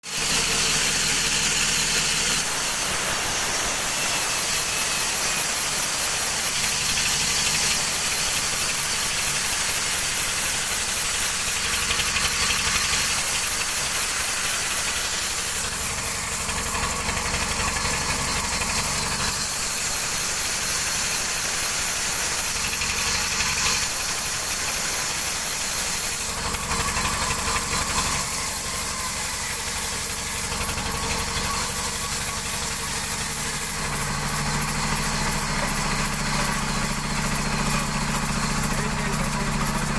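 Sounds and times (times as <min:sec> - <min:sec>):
saw blade hissing through wood: 0:00.0 - 0:39.9
sawmill machinery droning: 0:00.0 - 0:39.9.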